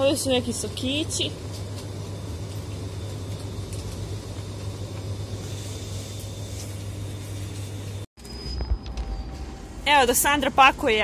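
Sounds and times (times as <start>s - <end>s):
grocery store background hum: 0.0s - 11.0s.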